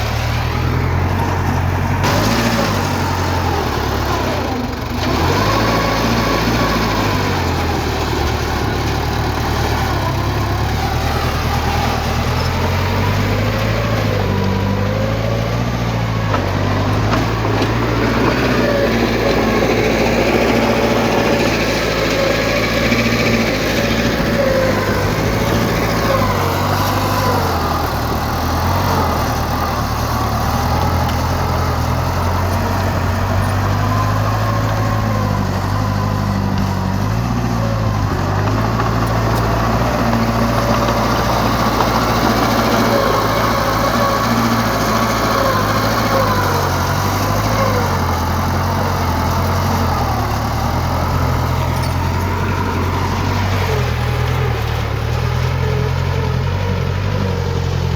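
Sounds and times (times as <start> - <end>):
heavy machinery diesel engine running: 0.0 - 57.9.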